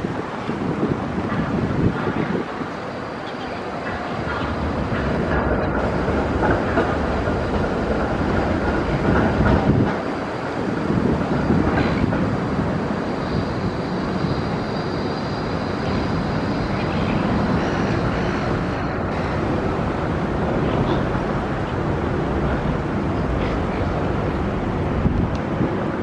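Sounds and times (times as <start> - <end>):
low rumble of city traffic: 0.0 - 26.0.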